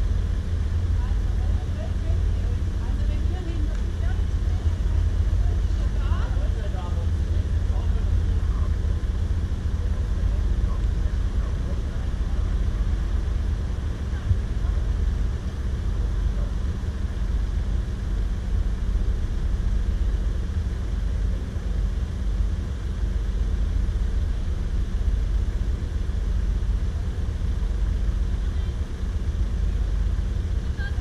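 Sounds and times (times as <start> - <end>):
road noise: 0.0 - 31.0
vehicle engine rumble: 0.0 - 31.0.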